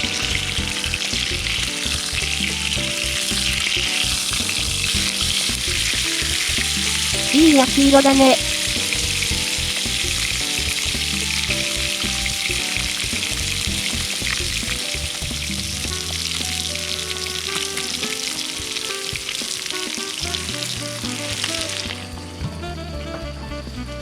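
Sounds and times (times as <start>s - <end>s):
meat sizzling in a pan: 0.0s - 22.8s
background music: 0.0s - 24.0s.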